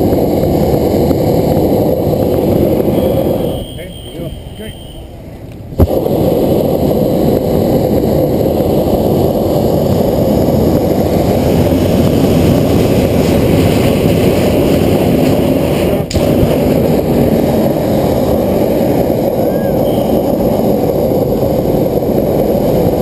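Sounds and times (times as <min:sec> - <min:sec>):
propane burner roaring: 0:00.0 - 0:23.0.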